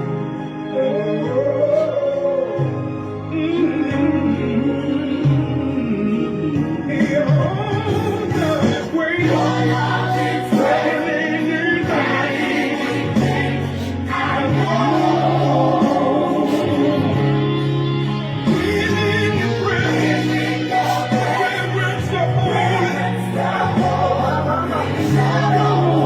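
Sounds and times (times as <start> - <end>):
choir singing gospel song: 0.0 - 26.0
steady held chords: 4.4 - 26.0.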